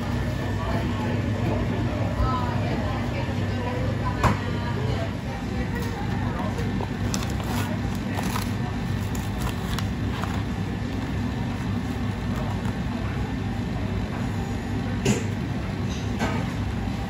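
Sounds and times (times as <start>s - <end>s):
kitchen machinery hum: 0.0s - 17.0s.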